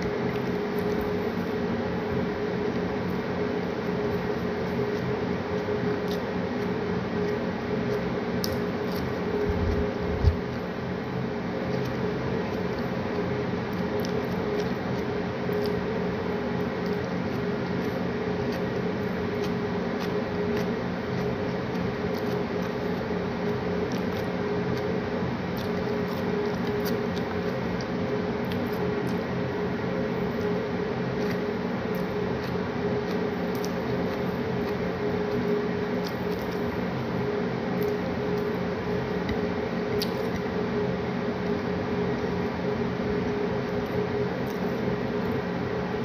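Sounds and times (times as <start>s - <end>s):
wet chewing smacks and clicks: 0.0s - 1.5s, 3.8s - 10.6s, 11.6s - 29.5s, 30.2s - 37.0s, 37.7s - 40.6s, 43.6s - 45.5s
steady machine hum: 0.0s - 46.0s.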